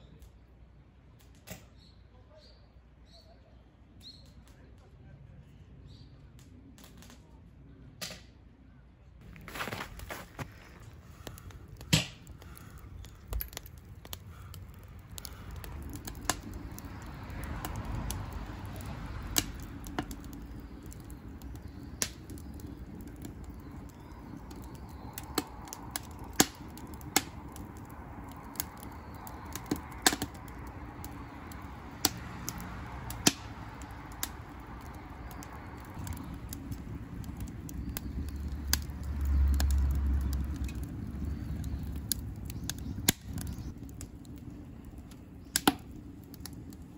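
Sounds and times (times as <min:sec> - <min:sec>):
wood fire crackling: 0:03.9 - 0:08.3, 0:09.2 - 0:46.9
low rumble: 0:09.2 - 0:46.9.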